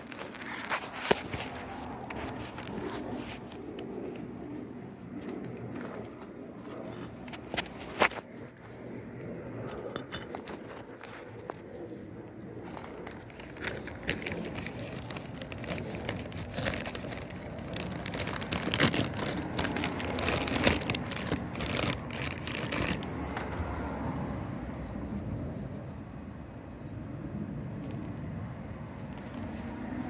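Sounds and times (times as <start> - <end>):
crinkling and rustling handling noise: 0.0 - 30.0.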